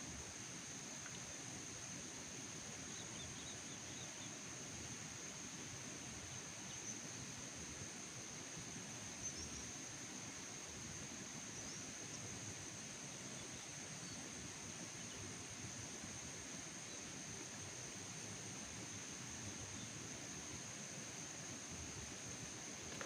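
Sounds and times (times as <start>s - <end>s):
insects droning: 0.0s - 23.0s
low background noise: 0.0s - 23.0s.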